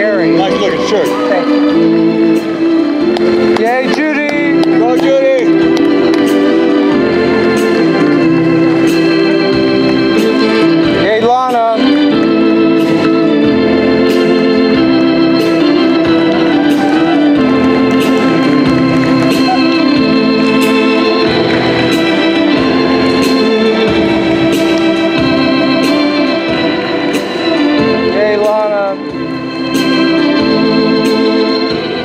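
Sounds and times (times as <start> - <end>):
organ music: 0.0 - 32.0.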